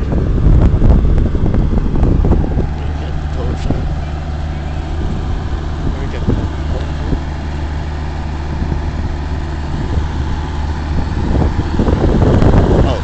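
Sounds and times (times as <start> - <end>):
vehicle engine and road drone: 0.0 - 13.0.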